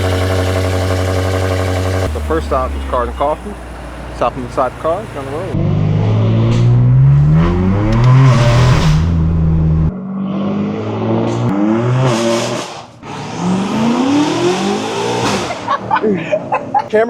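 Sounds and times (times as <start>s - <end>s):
loud car engine: 0.0s - 16.4s.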